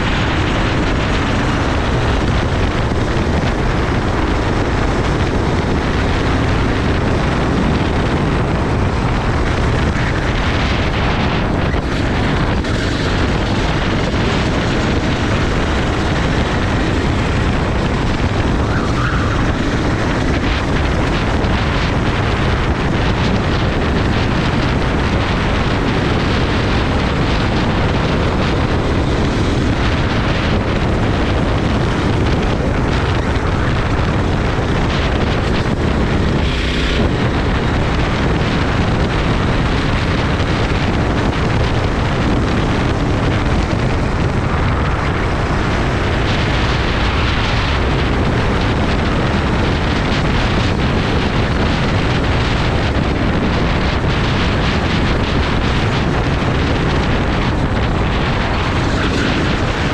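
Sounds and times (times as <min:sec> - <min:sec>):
kart engine: 0:00.0 - 0:59.9
wind buffeting microphone: 0:00.0 - 0:59.9.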